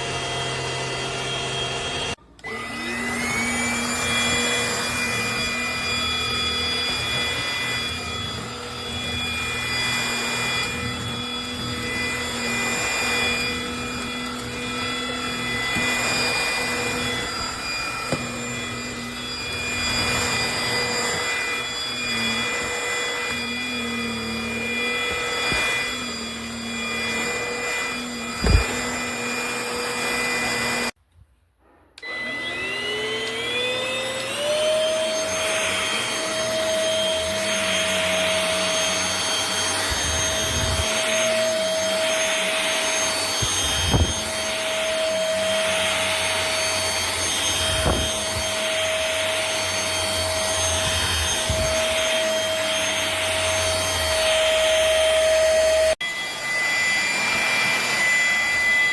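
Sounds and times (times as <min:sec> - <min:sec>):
stick vacuum motor whining: 0:00.0 - 0:31.0, 0:32.0 - 0:58.9.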